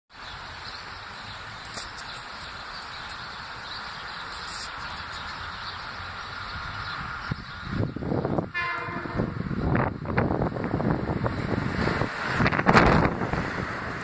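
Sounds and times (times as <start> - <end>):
outdoor background noise: 0.1 - 14.0.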